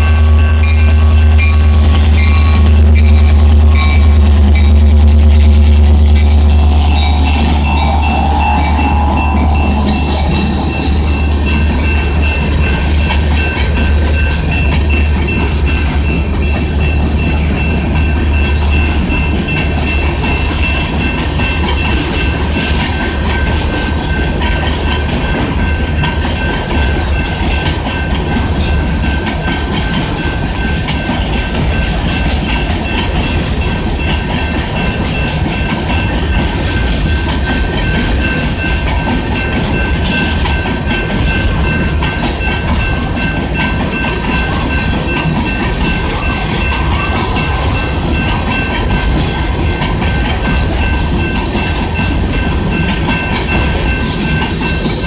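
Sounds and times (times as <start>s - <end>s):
crossing warning bell ringing: 0.0s - 55.0s
freight train rumbling past: 0.0s - 55.0s.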